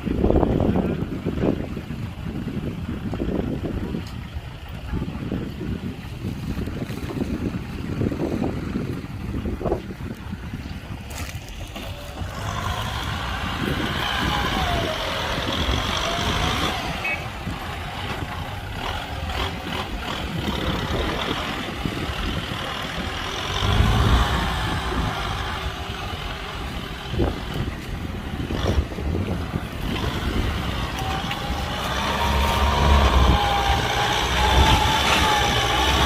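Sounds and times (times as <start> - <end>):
heavy diesel machinery running: 0.0 - 36.0.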